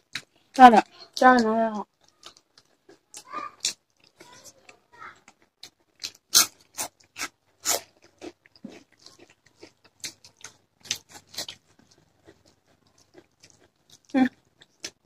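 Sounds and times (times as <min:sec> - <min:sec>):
chewing and lip smacking: 0:00.1 - 0:15.0.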